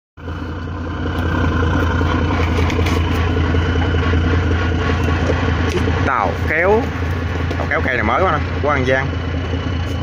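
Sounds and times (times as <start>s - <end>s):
boat engine droning: 0.2s - 10.0s.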